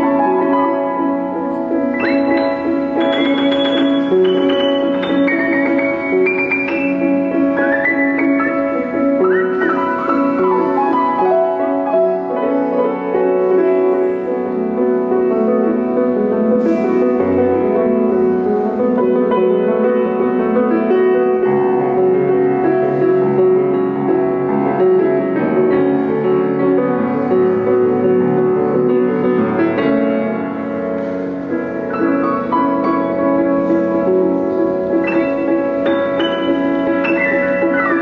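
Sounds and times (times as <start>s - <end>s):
solo piano chords: 0.0s - 38.0s.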